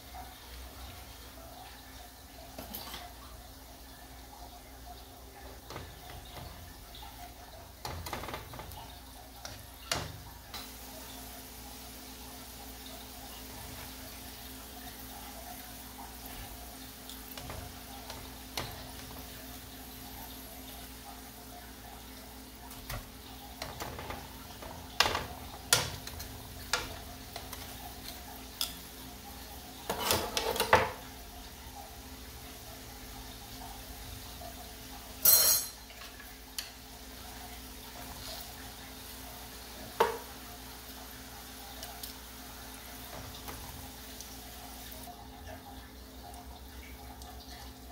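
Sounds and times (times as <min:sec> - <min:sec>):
hot oil sizzling: 0:00.0 - 0:47.9.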